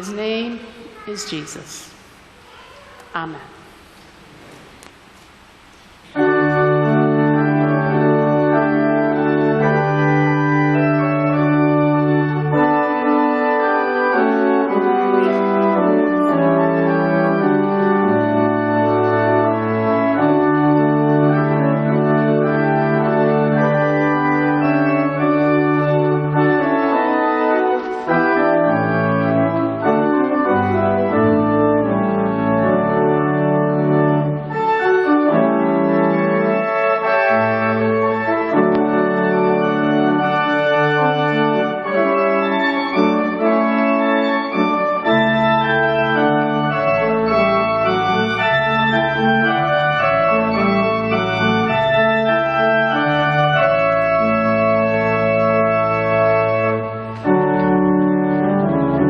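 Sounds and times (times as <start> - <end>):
organ playing sustained chords: 3.6 - 59.0.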